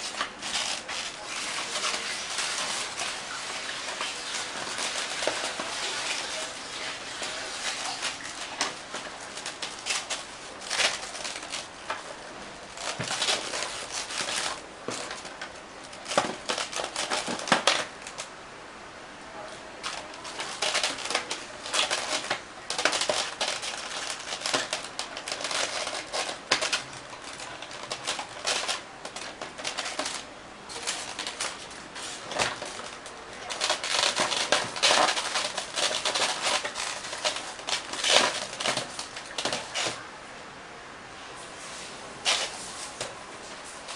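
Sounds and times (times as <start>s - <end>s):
styrofoam squeaking and creaking: 0.0s - 18.3s, 19.8s - 40.1s, 42.3s - 43.9s
rustling: 0.0s - 18.4s, 19.3s - 40.2s, 41.2s - 43.9s.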